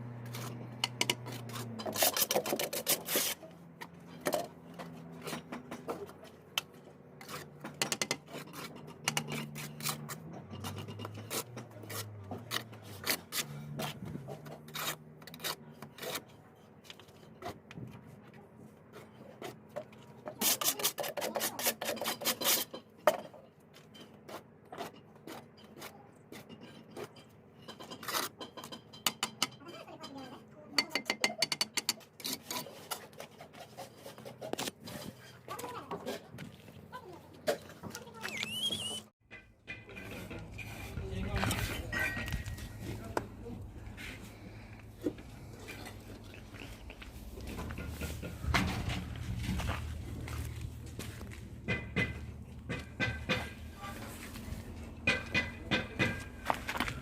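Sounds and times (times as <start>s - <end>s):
trowel scraping and tapping bricks: 0.2s - 36.8s, 37.5s - 57.0s.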